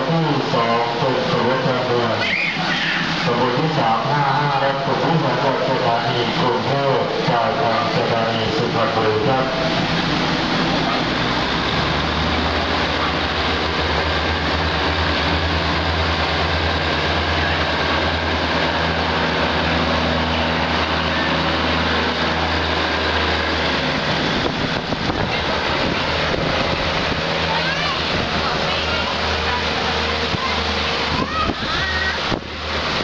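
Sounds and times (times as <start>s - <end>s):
diesel railcar engine hum: 0.0s - 33.0s
heavy rain hissing: 0.0s - 33.0s.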